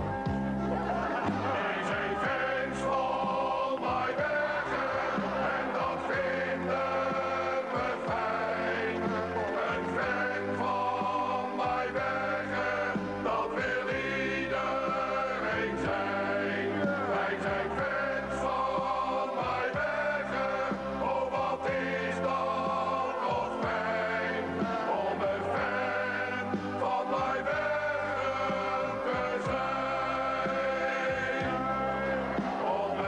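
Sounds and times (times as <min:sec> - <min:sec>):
choir singing: 0:00.7 - 0:33.0.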